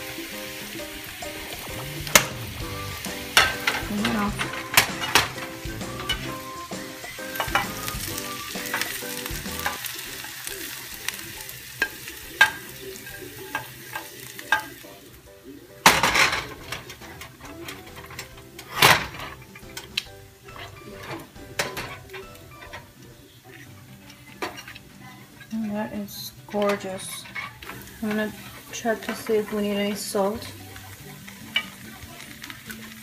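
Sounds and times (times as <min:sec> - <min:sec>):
light sizzle: 0:00.0 - 0:33.0
tongs scraping steel pans: 0:00.3 - 0:14.9, 0:15.8 - 0:33.0.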